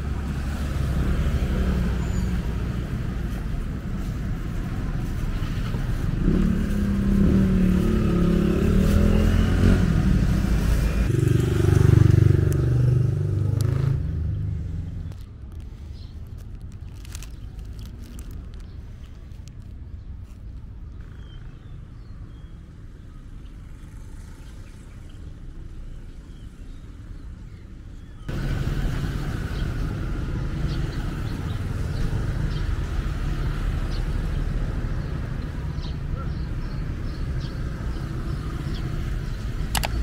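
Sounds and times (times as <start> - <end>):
traffic rumble: 0.0 - 40.0.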